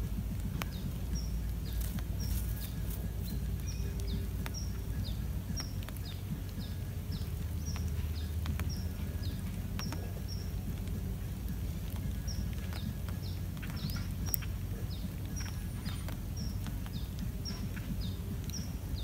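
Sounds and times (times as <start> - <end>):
steady low rumble: 0.0 - 19.0
high bird chirps: 0.6 - 19.0.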